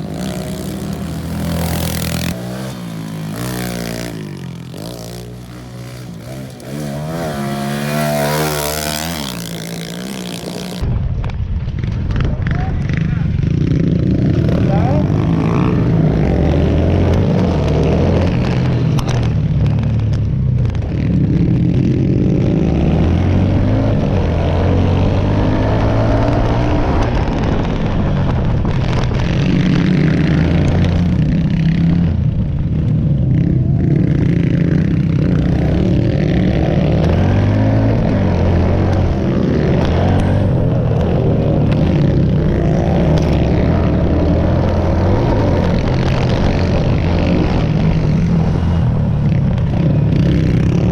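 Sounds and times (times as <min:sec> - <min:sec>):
pit bike engines revving: 0:00.0 - 0:10.9, 0:11.8 - 0:50.9.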